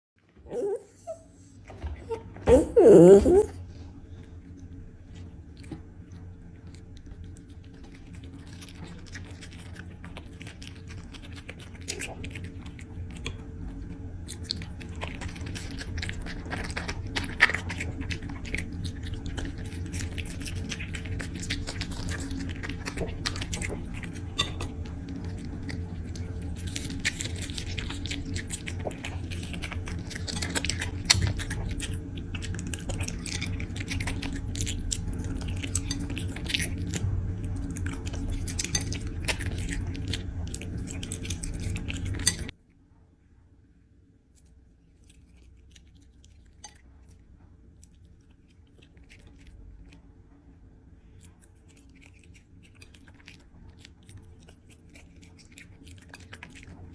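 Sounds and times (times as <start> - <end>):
puppy chewing: 0.3 - 42.6, 44.3 - 56.9
steady low hum: 0.3 - 56.9.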